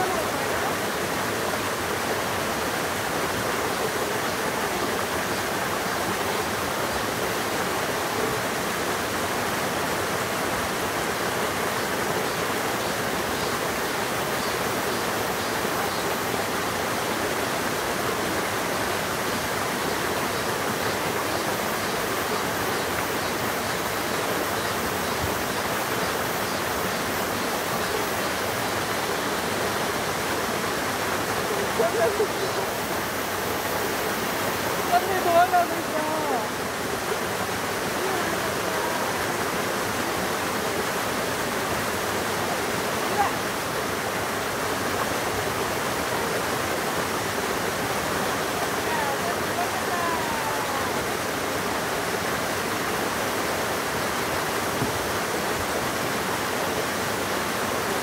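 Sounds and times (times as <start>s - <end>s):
small waterfall rushing: 0.0s - 58.0s.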